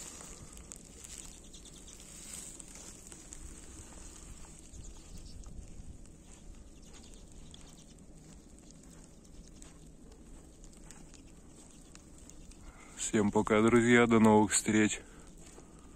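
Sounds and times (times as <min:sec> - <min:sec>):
birds calling faintly: 0:00.0 - 0:15.9
low steady background rumble: 0:00.0 - 0:15.9.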